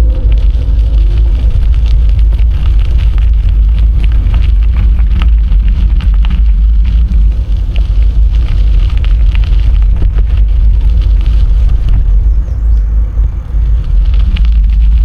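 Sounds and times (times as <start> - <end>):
bicycle clicks and crackles: 0.0 - 15.0
wind buffeting microphone: 0.0 - 15.0.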